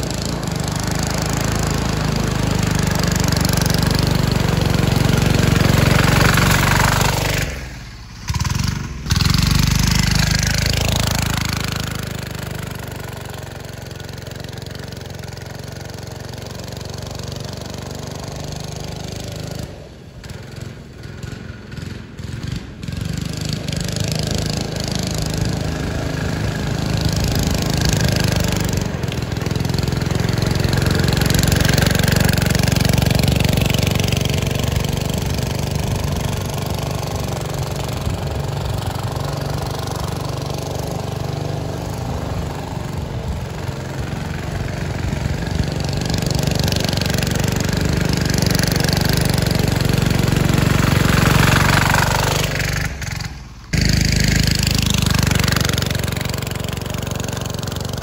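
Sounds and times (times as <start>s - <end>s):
go-kart engine running: 0.0s - 58.0s
kart splashing through mud: 0.0s - 58.0s.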